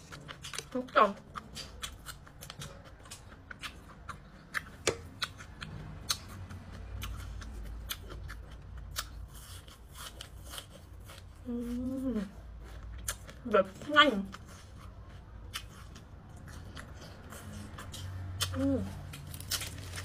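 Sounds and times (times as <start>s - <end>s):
chewing and mouth noises: 0.0s - 20.0s.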